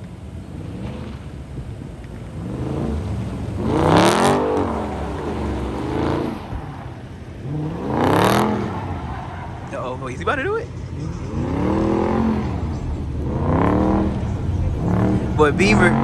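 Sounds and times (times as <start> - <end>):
car engine revving: 0.0 - 16.0
engine rumble: 0.0 - 16.0.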